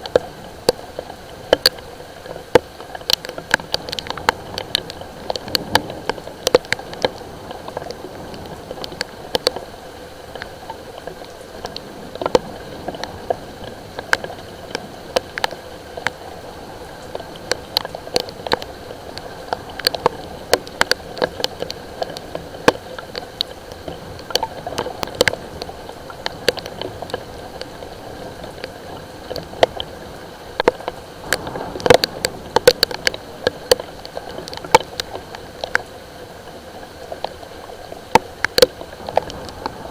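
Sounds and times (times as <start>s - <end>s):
raindrops pattering on hard surface: 0.0s - 39.9s
steady rain hiss: 0.0s - 39.9s.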